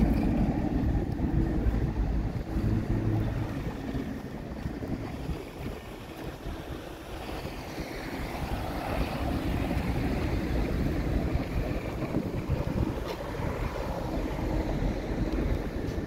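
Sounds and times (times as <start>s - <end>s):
boat engine rumble: 0.0s - 16.0s
rushing water: 0.0s - 16.0s
wind buffeting microphone: 0.0s - 16.0s.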